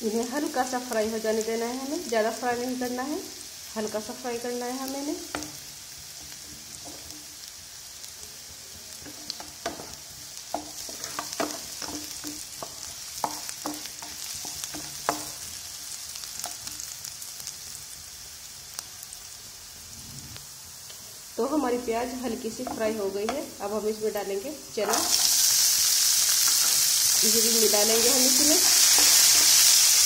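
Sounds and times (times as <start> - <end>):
onion sizzling in a frying pan: 0.0 - 30.0.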